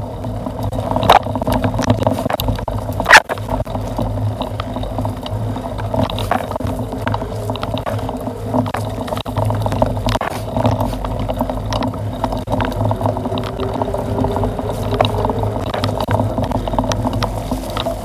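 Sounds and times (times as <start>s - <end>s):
bike knocking and rattling: 0.0s - 18.0s
bike tyres and wind rumbling: 0.0s - 18.0s.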